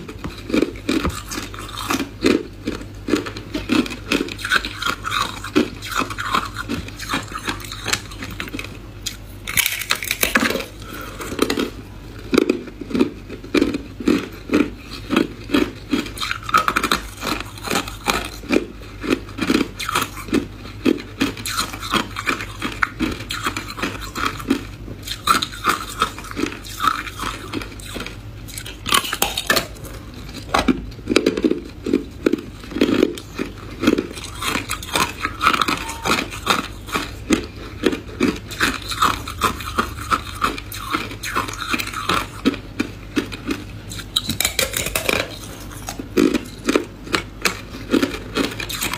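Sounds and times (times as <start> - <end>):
ice crunching between teeth: 0.0 - 48.9.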